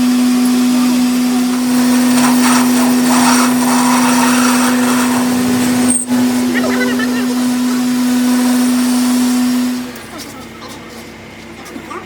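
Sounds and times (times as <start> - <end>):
metal lathe motor hum: 0.0 - 10.1.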